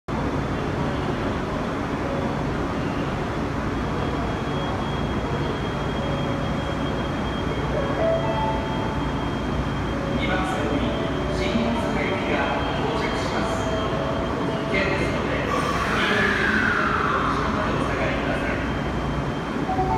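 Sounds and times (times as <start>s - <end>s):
subway train rumbling: 0.1s - 19.9s.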